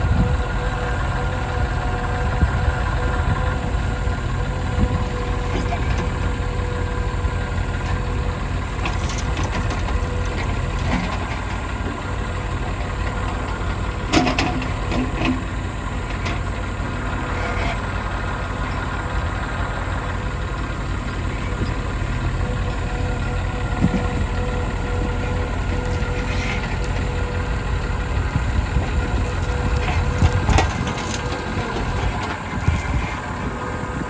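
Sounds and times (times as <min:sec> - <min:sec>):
diesel engine rumbling: 0:00.0 - 0:34.0.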